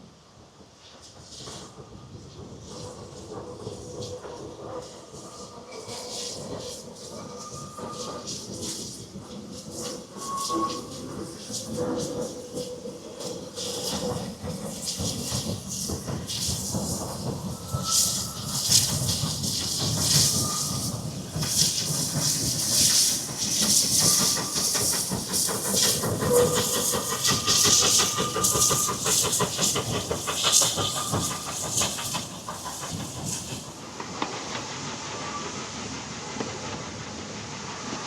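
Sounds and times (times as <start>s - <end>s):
steam locomotive exhaust beats: 0.0s - 38.0s
steam escaping: 0.9s - 38.0s.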